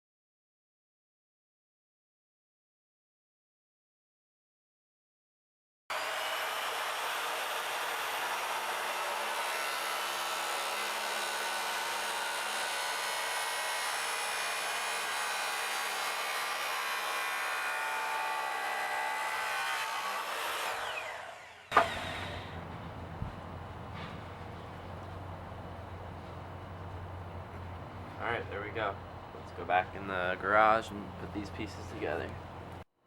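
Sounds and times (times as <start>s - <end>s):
miter saw cutting pipe: 5.9s - 32.8s.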